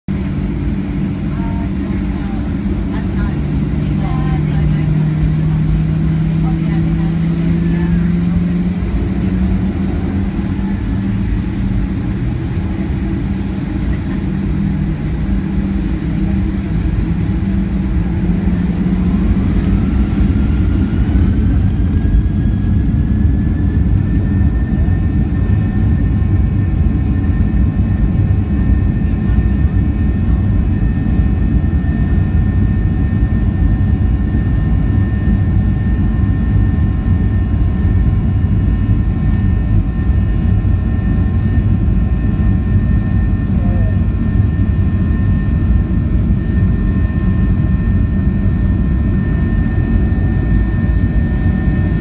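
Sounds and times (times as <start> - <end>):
heavy rumble of takeoff roll: 0.1 - 52.0
jet engine whine: 0.1 - 52.0.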